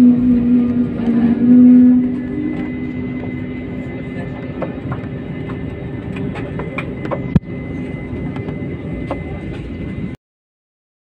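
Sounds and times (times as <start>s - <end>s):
jet engines humming in cabin: 0.0s - 10.2s.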